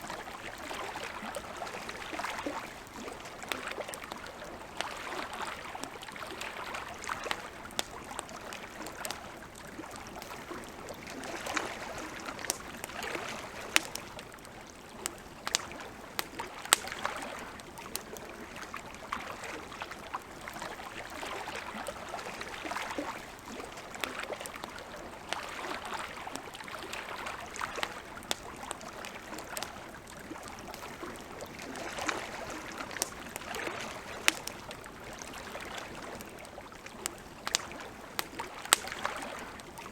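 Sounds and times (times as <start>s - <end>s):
campfire crackling and popping: 0.0s - 39.9s
lake water lapping: 0.0s - 39.9s.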